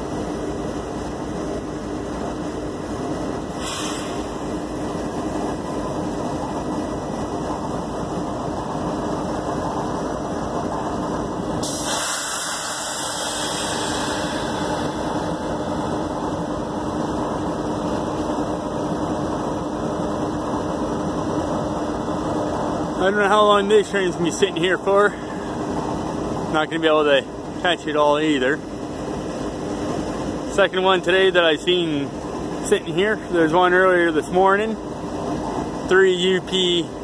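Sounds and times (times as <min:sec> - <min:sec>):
constant low hum: 0:00.0 - 0:37.0
locomotive engines idling: 0:00.0 - 0:37.0.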